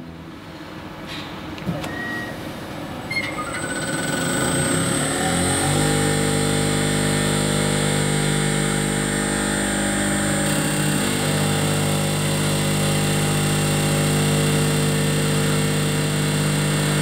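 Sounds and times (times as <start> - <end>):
pump motor humming and whining: 3.1 - 17.0.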